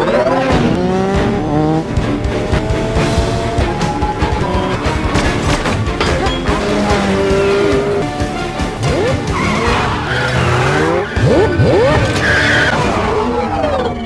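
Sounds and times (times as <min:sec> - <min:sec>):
car engines revving: 0:00.0 - 0:14.0
film score music: 0:00.0 - 0:14.0
tyres squealing: 0:00.0 - 0:14.0.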